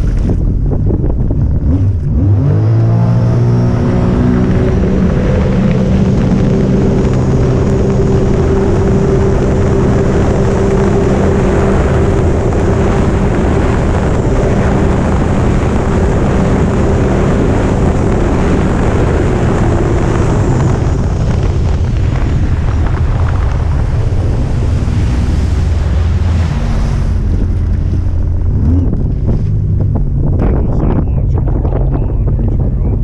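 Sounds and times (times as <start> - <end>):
personal watercraft engine drone: 0.0 - 33.0
water rushing past hull: 0.0 - 33.0
wind buffeting microphone: 0.0 - 33.0.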